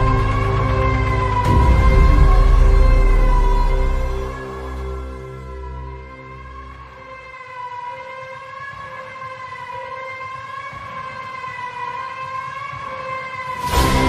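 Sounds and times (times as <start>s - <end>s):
full soundtrack music: 0.0s - 14.0s
wavering siren-like tone: 0.0s - 14.0s.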